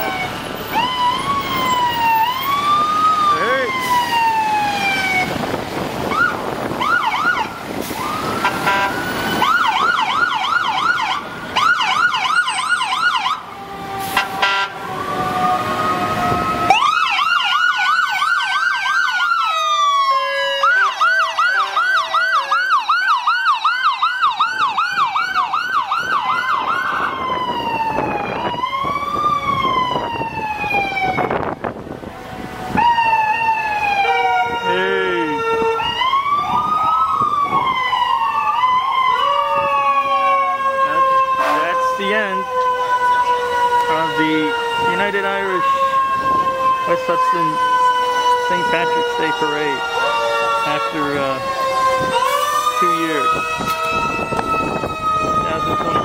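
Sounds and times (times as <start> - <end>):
emergency vehicle sirens: 0.0 - 56.0.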